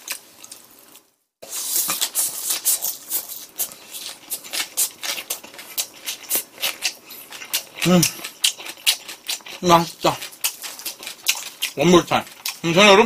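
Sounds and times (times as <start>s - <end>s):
wet crunchy chewing: 1.6s - 13.0s.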